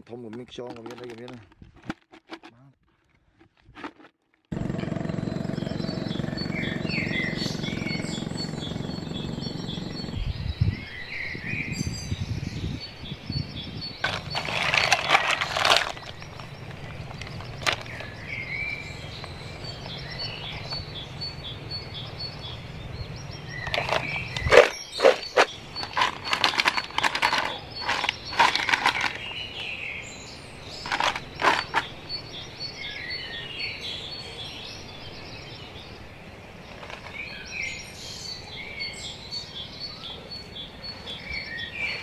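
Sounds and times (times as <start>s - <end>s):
birds chirping and calling: 4.5s - 42.0s.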